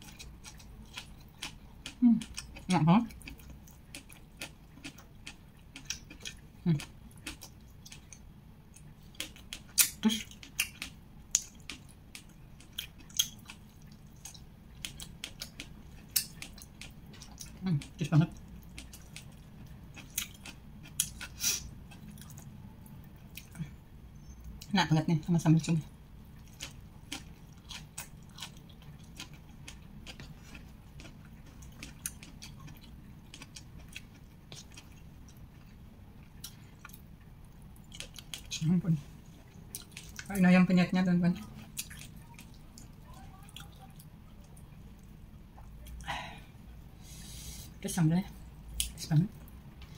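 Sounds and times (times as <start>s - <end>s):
person chewing food: 0.0s - 23.8s, 26.3s - 40.4s, 41.4s - 46.2s
faint low hum: 0.0s - 49.9s.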